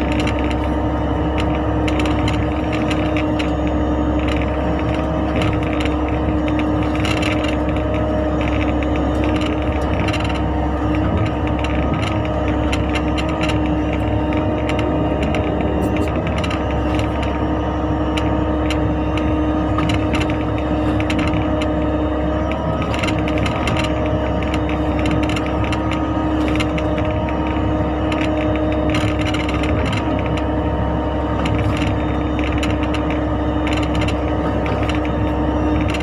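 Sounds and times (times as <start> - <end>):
machine clicks and knocks: 0.0 - 30.5, 31.3 - 36.0
excavator diesel engine running: 0.0 - 36.0.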